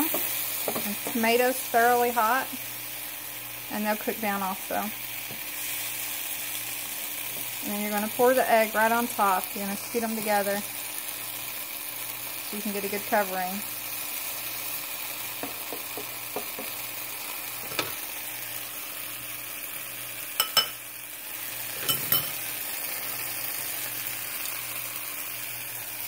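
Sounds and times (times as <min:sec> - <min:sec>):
vegetables sizzling in a frying pan: 0:00.0 - 0:26.0.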